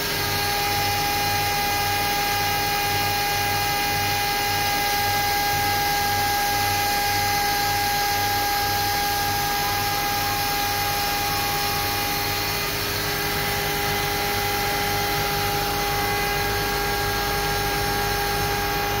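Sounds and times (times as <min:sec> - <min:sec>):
grinding machine whine: 0:00.0 - 0:19.0.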